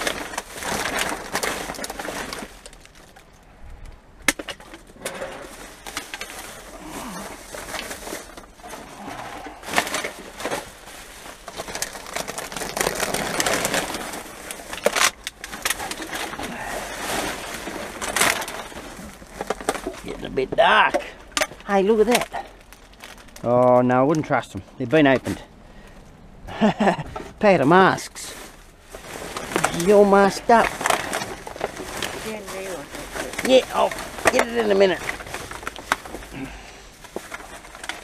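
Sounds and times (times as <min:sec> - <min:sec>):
plastic bags rustling and crinkling: 0:00.0 - 0:03.5, 0:04.3 - 0:25.5, 0:26.6 - 0:38.0.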